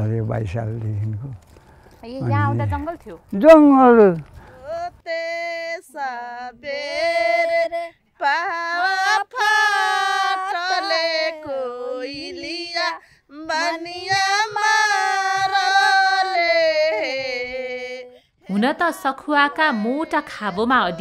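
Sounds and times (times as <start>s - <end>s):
high solo voice singing: 4.0s - 21.0s.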